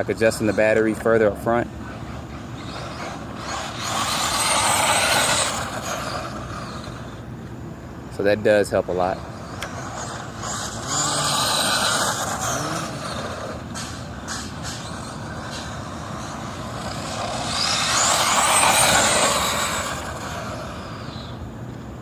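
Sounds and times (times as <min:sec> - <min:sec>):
rc truck motor whine: 0:00.0 - 0:07.4, 0:08.7 - 0:22.0.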